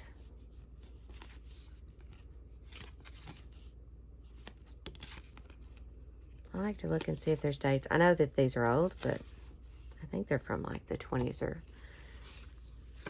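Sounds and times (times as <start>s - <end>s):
paper cards rustling: 0.1s - 7.6s, 8.5s - 10.0s, 11.1s - 13.0s.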